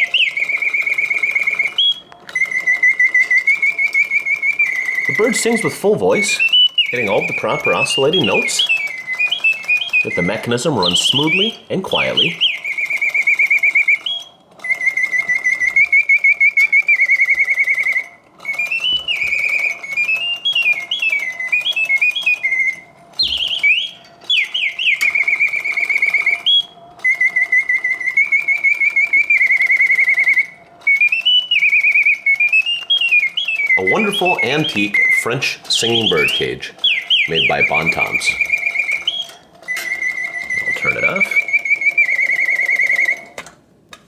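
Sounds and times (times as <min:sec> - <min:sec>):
mechanical bird whistling trills: 0:00.0 - 0:43.6.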